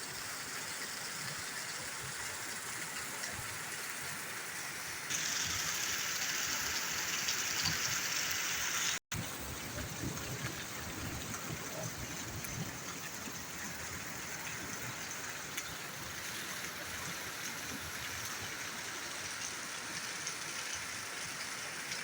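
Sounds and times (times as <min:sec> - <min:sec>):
rainwater trickling: 0:00.1 - 0:22.0
rain falling: 0:00.2 - 0:22.0.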